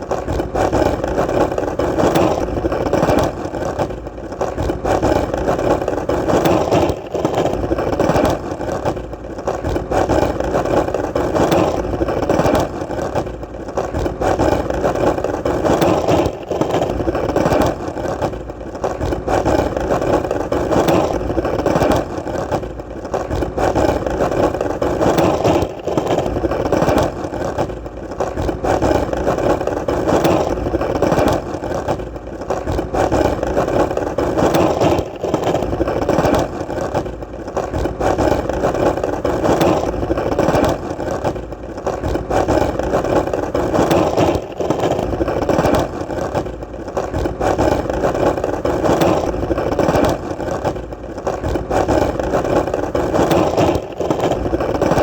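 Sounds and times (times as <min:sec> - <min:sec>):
skateboard wheels rolling: 0:00.0 - 0:55.0.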